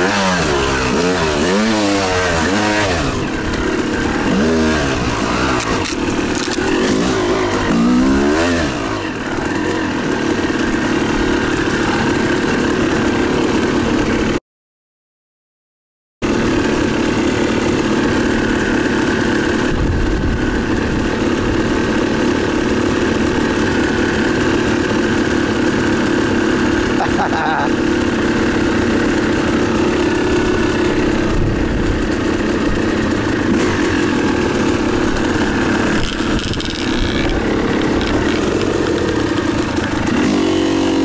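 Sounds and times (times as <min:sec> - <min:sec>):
dirt bike engine revving: 0:00.0 - 0:14.4, 0:16.2 - 0:41.0.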